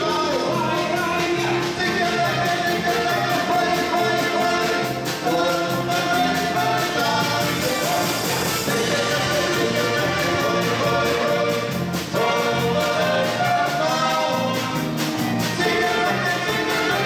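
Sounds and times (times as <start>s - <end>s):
live polka band playing: 0.0s - 17.0s.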